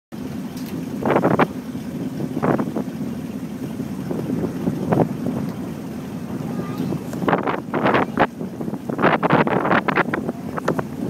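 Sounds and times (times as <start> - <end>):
boat engine rumble: 0.1 - 11.0
wind buffeting microphone: 0.6 - 11.0.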